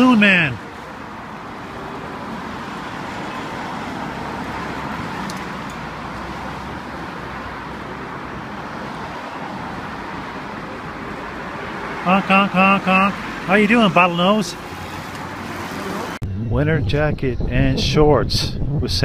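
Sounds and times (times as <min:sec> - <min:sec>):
cars driving past: 0:00.0 - 0:16.2.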